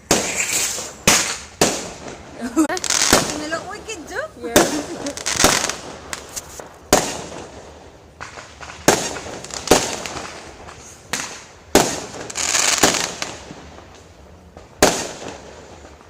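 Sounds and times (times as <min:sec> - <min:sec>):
fireworks bangs: 0:00.0 - 0:16.0
fireworks crackling hiss: 0:00.0 - 0:16.0.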